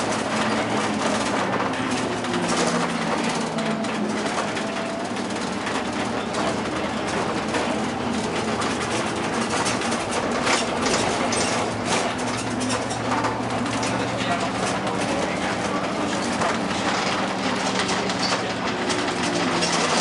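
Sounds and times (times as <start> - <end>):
bus engine running: 0.0 - 20.0
road noise: 0.0 - 20.0.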